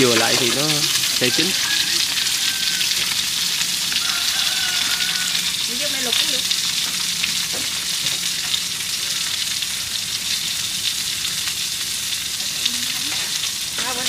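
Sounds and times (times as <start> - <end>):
sausages sizzling in a pan: 0.0 - 14.0
small crackles: 0.0 - 14.0.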